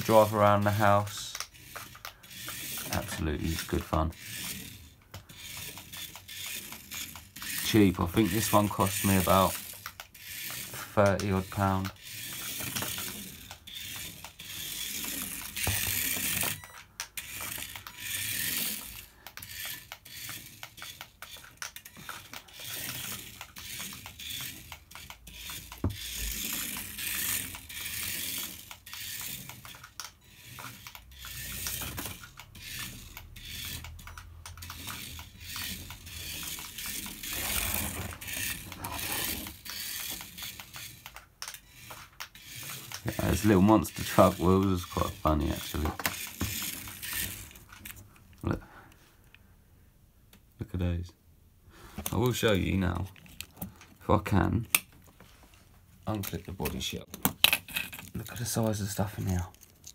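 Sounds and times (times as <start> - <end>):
toy car motor buzzing: 0.0 - 48.0, 56.2 - 59.9.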